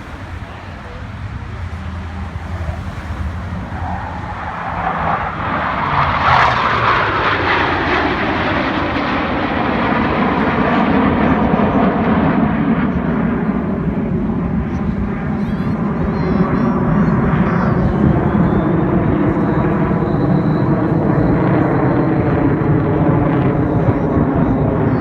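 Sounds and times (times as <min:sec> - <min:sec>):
airplane flying past low: 0:00.0 - 0:25.0.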